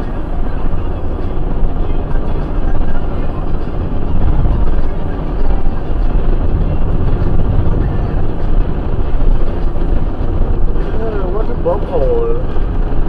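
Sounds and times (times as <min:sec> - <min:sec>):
in-cab vehicle rumble: 0:00.0 - 0:13.0.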